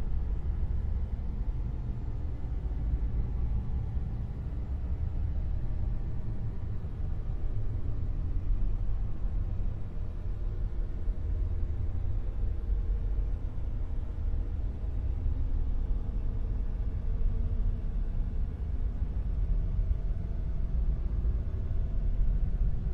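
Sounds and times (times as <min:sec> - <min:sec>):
deep rumbling noise drone: 0:00.0 - 0:22.9.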